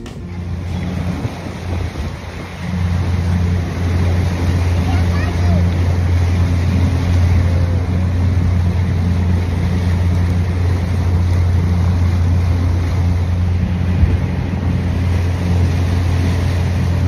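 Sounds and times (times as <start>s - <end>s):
motorboat engine humming: 0.0s - 17.0s
water noise: 0.0s - 17.0s
wind: 0.0s - 17.0s.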